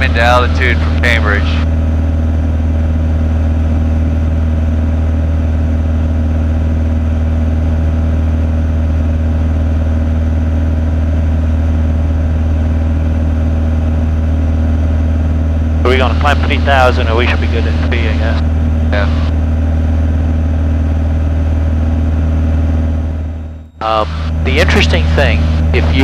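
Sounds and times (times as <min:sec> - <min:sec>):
airplane engine droning in cabin: 0:00.0 - 0:26.0.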